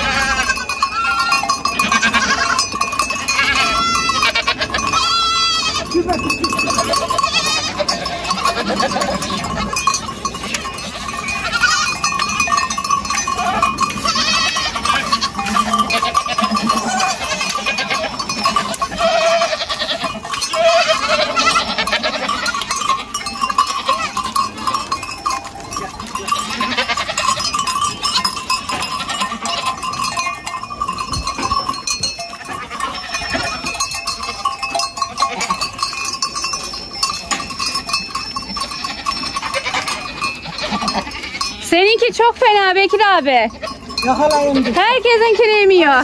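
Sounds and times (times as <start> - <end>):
goats bleating: 0.0 - 42.8, 43.5 - 46.0
animal bells clanking: 0.0 - 46.0.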